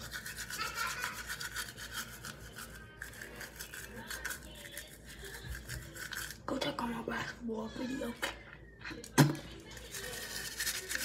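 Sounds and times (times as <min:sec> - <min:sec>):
toothbrush scrubbing teeth: 0:00.0 - 0:11.0.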